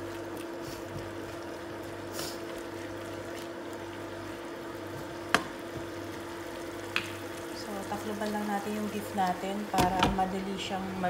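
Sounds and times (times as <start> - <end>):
meat simmering in frying pan: 0.0 - 11.0.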